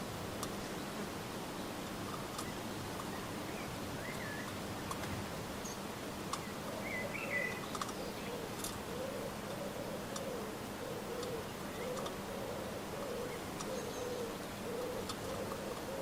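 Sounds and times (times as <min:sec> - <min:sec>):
outdoor background noise: 0:00.0 - 0:16.0
small birds chirping: 0:02.0 - 0:16.0.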